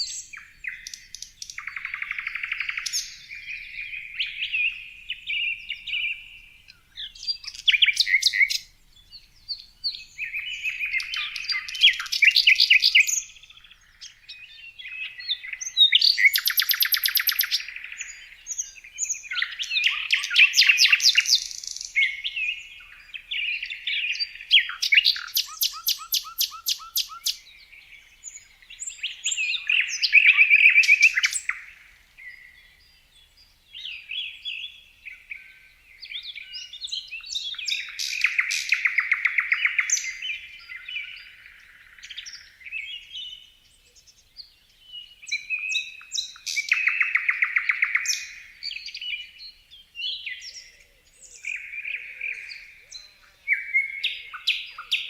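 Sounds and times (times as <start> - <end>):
songbird trilling and chirping: 0.0 - 55.0.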